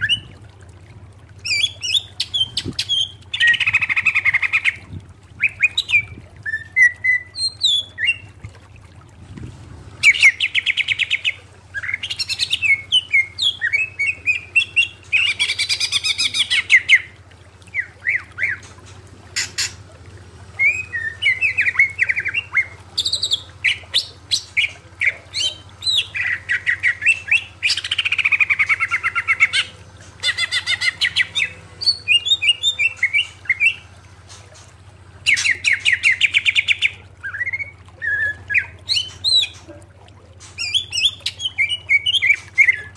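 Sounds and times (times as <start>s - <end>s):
bird singing trills and whistles: 0.0s - 0.4s, 1.4s - 4.8s, 5.4s - 8.4s, 10.0s - 18.7s, 20.6s - 33.8s, 35.2s - 39.7s, 40.6s - 42.9s.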